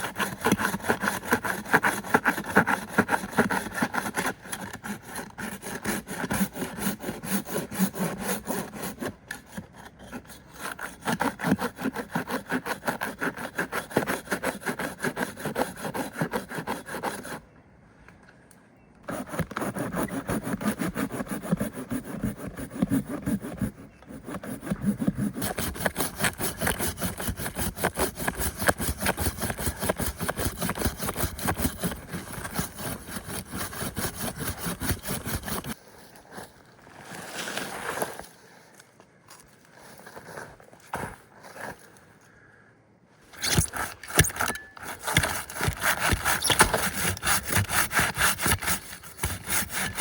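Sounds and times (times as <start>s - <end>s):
hand saw cutting wood: 0.0s - 17.4s, 19.0s - 35.8s, 43.3s - 50.0s.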